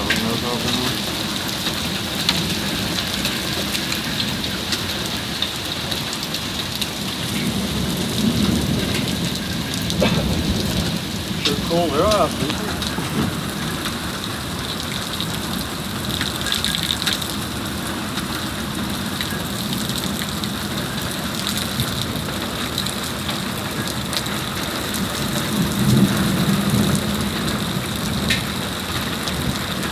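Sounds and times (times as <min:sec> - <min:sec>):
heavy rain on hard surfaces: 0:00.0 - 0:29.9.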